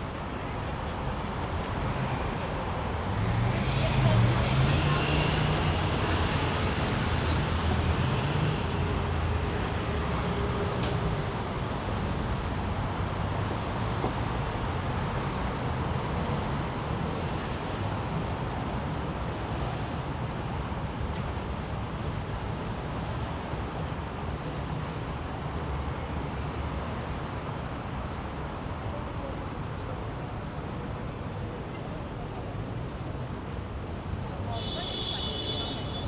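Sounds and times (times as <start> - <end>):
busy road traffic: 0.0 - 36.0.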